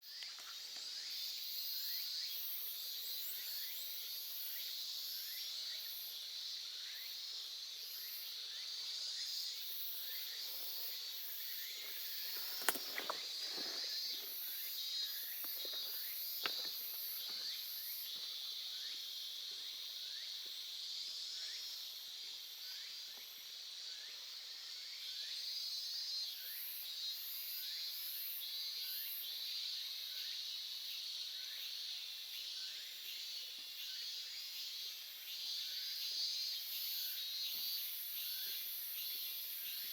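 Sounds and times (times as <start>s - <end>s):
insects calling: 0.0s - 39.9s.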